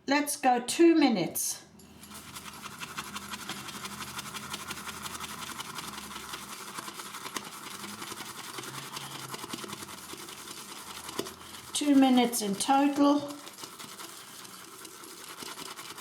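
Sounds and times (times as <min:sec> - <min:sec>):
shaving brush whisking lather: 0:02.0 - 0:16.0.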